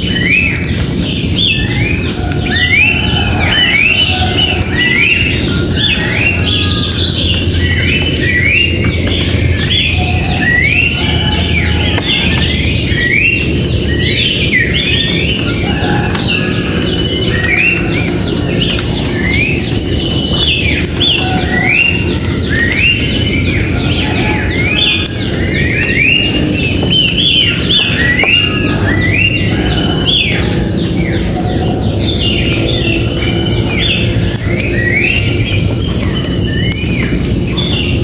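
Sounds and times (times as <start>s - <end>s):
birds chirping and calling: 0.0s - 38.0s
steady high-pitched hum: 0.0s - 38.0s.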